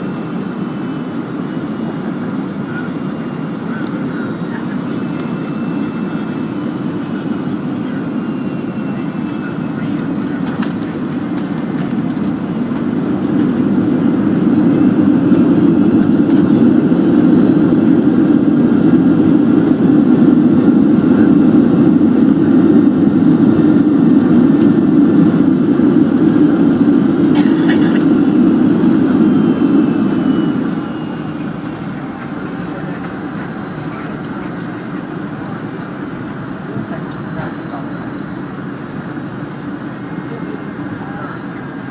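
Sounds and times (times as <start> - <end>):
jet engine and airflow rushing: 0.0 - 41.9.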